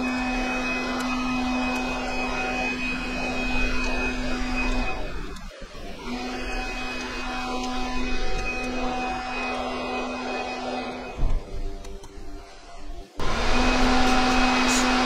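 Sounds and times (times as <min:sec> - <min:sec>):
constant hum: 0:00.0 - 0:15.0
mechanical whirr: 0:00.0 - 0:15.0.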